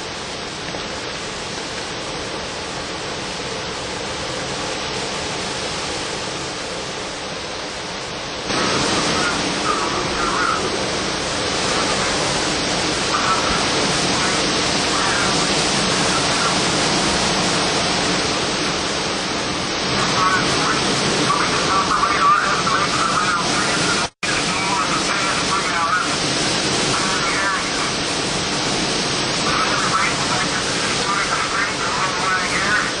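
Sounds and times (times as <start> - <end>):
driving rain: 0.0 - 33.0
strong wind rushing: 0.0 - 33.0.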